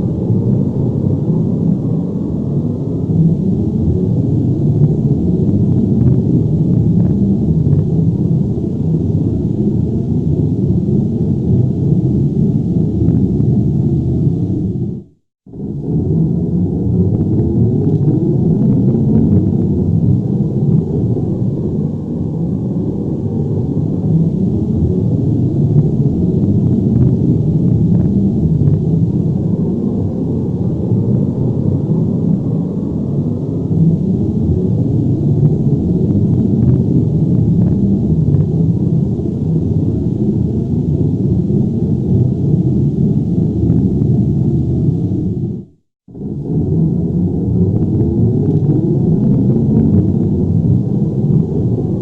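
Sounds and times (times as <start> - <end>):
deep rumble: 0.0 - 52.0.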